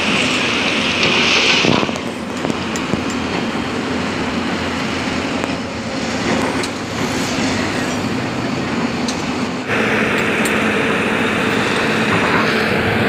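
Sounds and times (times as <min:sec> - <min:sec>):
heavy diesel machinery running: 0:00.0 - 0:13.0
hissy machine noise: 0:00.0 - 0:13.0.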